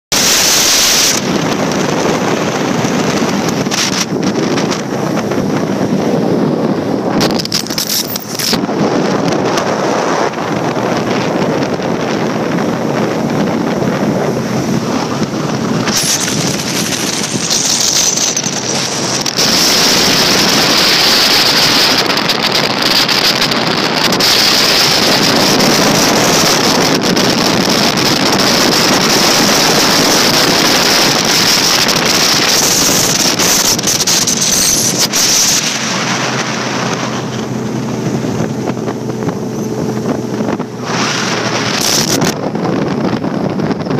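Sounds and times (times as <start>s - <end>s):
outboard engine running fast: 0.1s - 43.9s
rushing water: 0.1s - 43.9s
wind buffeting microphone: 0.1s - 43.9s.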